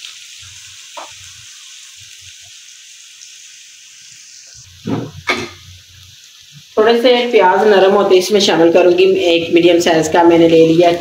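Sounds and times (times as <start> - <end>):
onion and garlic sizzling in oil: 0.0 - 11.0.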